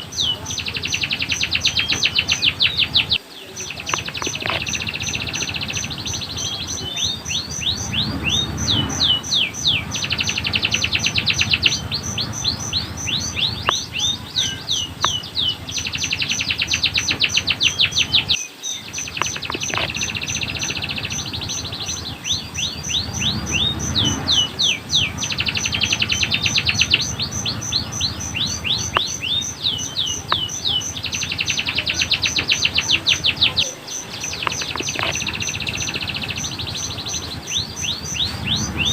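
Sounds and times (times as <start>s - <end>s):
canary singing trills: 0.0s - 38.9s
steady high ticking: 0.0s - 38.9s.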